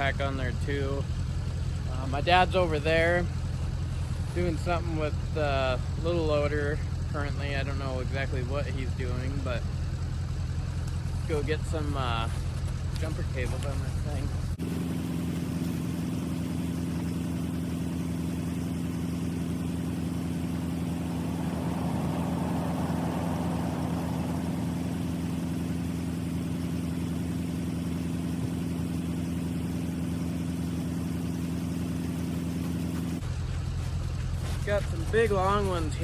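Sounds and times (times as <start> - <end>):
diesel loader engine idling: 0.0 - 36.0.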